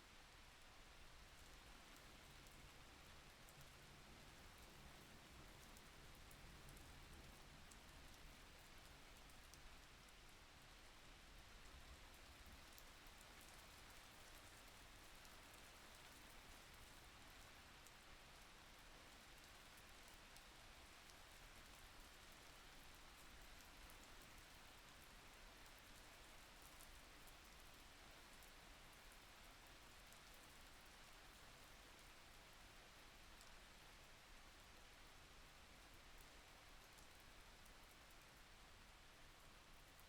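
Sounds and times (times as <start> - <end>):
faint steady rain: 0.0 - 40.0.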